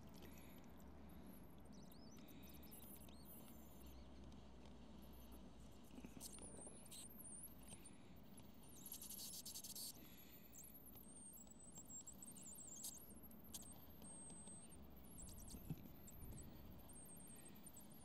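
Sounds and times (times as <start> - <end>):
faint high squeaks and chirps: 0.0 - 18.0.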